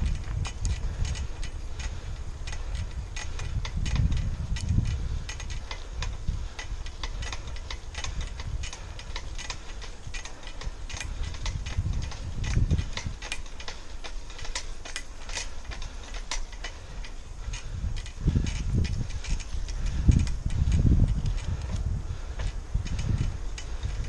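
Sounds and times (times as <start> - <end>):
bicycle ticks and clicks: 0.0 - 24.0
wind buffeting microphone: 0.0 - 24.0.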